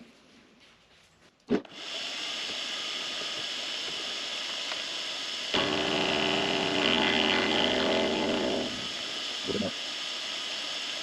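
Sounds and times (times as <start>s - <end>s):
lathe cutting metal hiss: 1.7s - 11.0s
lathe motor running: 1.8s - 11.0s.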